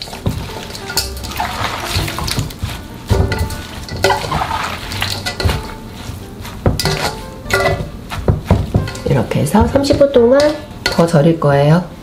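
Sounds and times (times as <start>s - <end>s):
wet leaves rustling and squelching: 0.0s - 10.9s.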